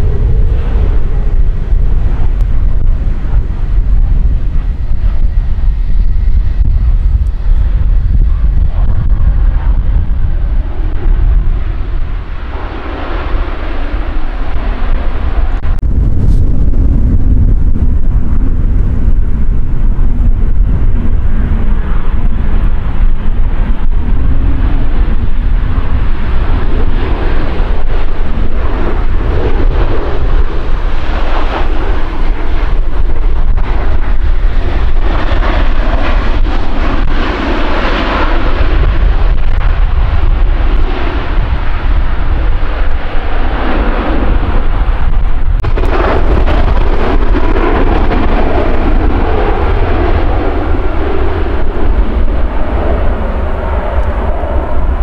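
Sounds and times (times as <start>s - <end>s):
jet engines landing: 0.0s - 55.0s
wind rumble on microphone: 0.0s - 55.0s.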